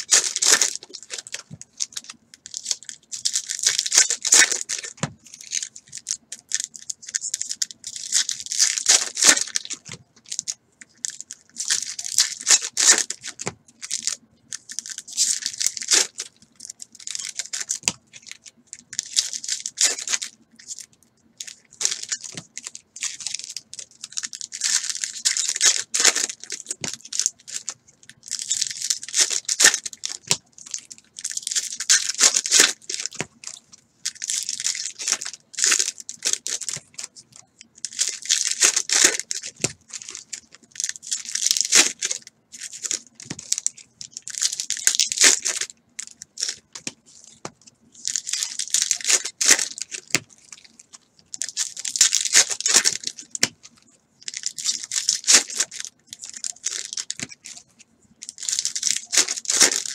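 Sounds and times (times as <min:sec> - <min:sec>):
foil wrappers tearing and crinkling: 0:00.0 - 0:59.9.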